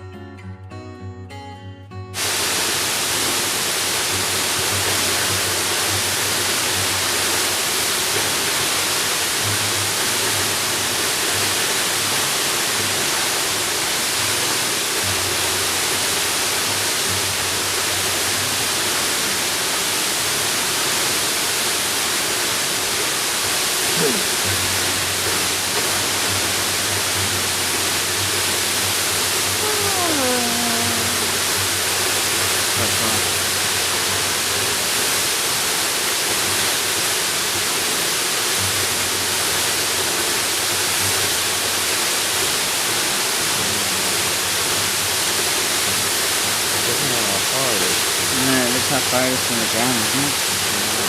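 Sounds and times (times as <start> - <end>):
strummed acoustic guitar: 0.0 - 2.2, 3.4 - 19.6, 23.4 - 36.6, 37.3 - 51.0
waterfall rushing: 2.2 - 51.0.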